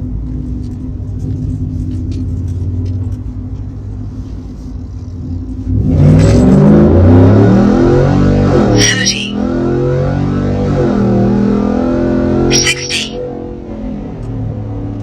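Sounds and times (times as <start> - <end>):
engine and road rumble in cab: 0.0 - 15.0.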